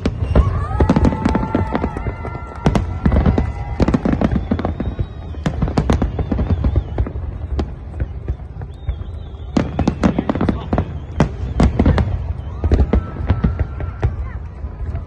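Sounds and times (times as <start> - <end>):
fireworks whistling: 0.0 - 14.8
fireworks bangs and crackles: 0.0 - 15.0.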